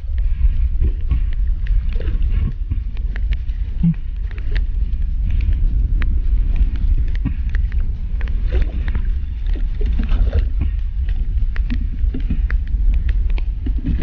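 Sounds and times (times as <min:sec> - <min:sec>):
low underwater rumble: 0:00.0 - 0:14.0
sharp clicks and crackles: 0:00.0 - 0:14.0.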